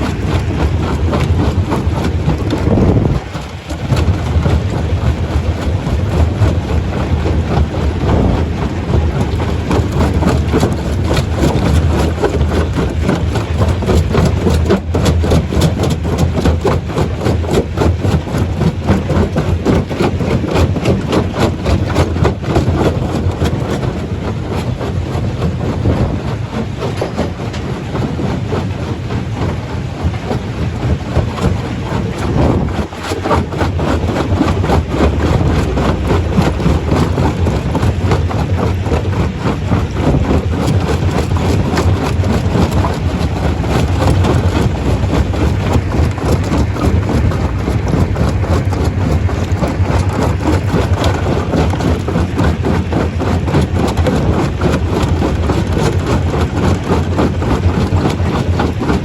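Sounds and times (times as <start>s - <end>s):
low machine drone: 0.0s - 59.0s.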